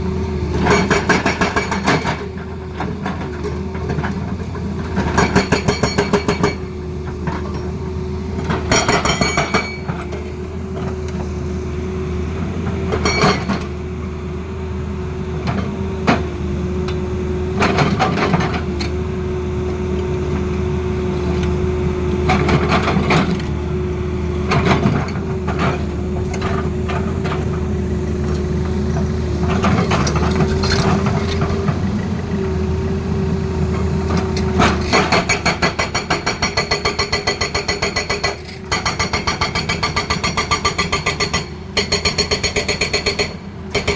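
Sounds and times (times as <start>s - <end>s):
excavator running: 0.0s - 43.9s.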